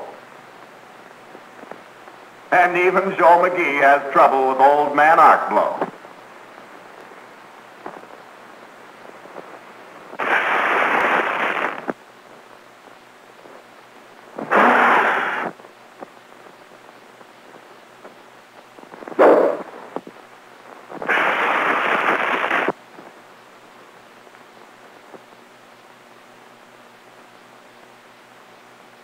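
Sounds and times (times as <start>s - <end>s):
arc welding crackling: 0.0s - 28.0s.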